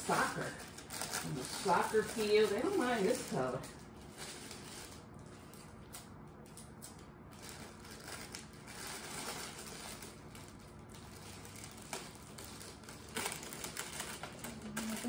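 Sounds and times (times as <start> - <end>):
cellophane crinkling: 0.0 - 15.0.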